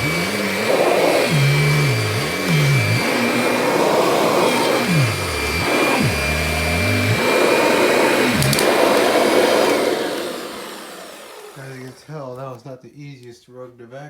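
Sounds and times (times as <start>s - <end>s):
upright vacuum cleaner running: 0.0s - 12.5s.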